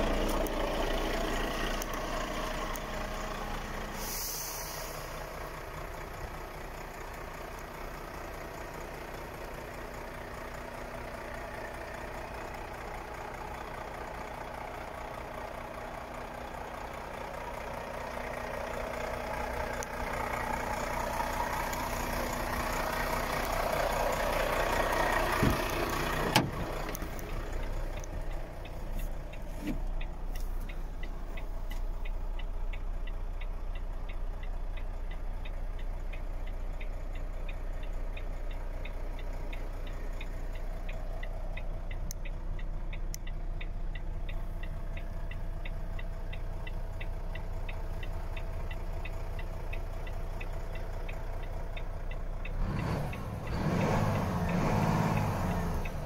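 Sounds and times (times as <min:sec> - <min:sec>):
regular ticking: 0:00.0 - 0:56.0
truck diesel engine idling: 0:00.0 - 0:56.0.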